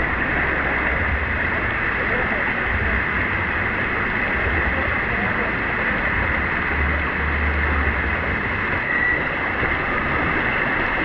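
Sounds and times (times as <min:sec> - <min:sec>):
low rumble: 0:00.0 - 0:11.0
water rushing: 0:00.0 - 0:11.0.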